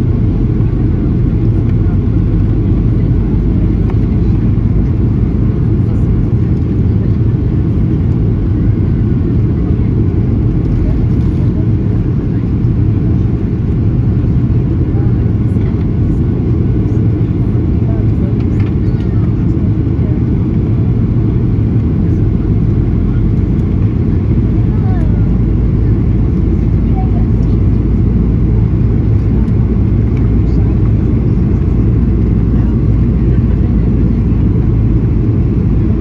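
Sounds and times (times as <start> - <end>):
jet engine drone in cabin: 0.0 - 36.0.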